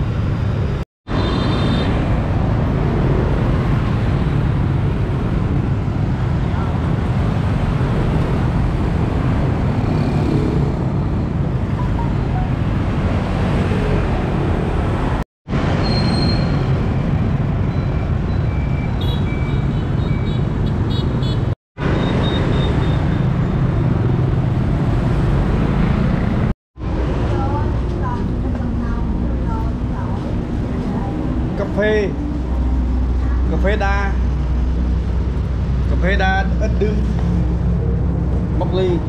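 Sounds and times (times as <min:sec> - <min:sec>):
motorbikes and cars passing: 0:00.0 - 0:39.0.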